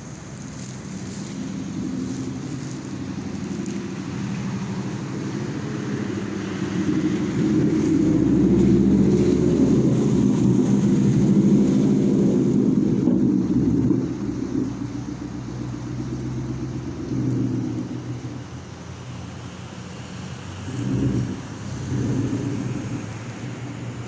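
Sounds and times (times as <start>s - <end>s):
passing vehicle engine rumble: 0.0s - 24.0s.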